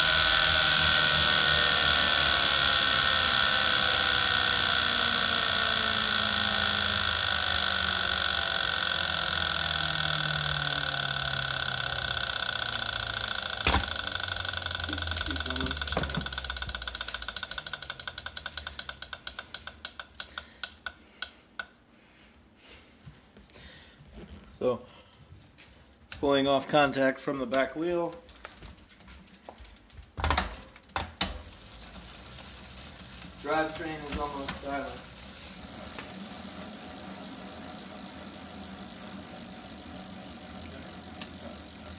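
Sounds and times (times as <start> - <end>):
bicycle wheel whirring: 0.0 - 21.8, 26.8 - 41.9
bike trainer clicking: 0.0 - 21.8, 27.4 - 41.9.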